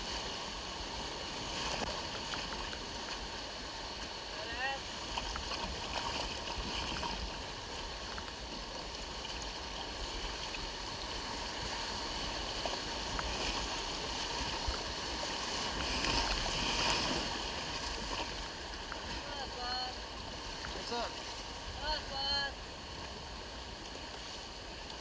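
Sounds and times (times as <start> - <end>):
river water rushing and splashing: 0.0 - 25.0.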